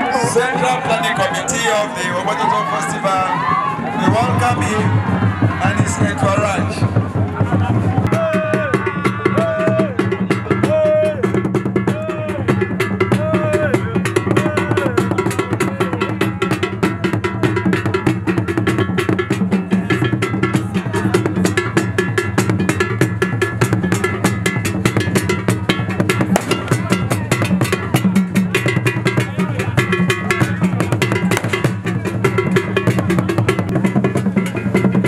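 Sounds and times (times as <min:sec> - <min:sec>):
drum ensemble playing: 0:00.0 - 0:35.0.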